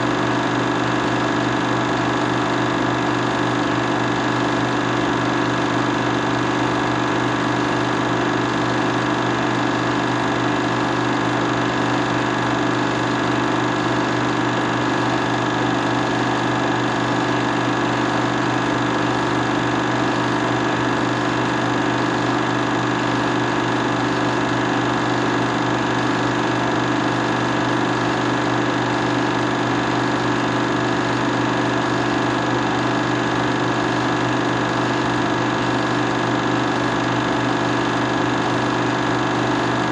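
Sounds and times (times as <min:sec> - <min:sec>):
film projector motor whirring: 0:00.0 - 0:39.9.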